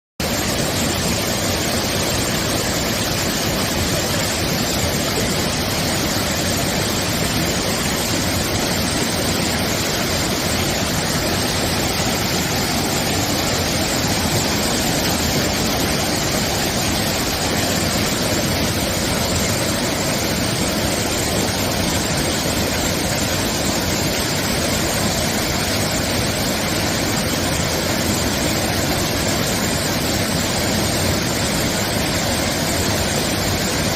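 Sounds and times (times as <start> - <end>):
stream flowing over rocks: 0.2 - 33.9.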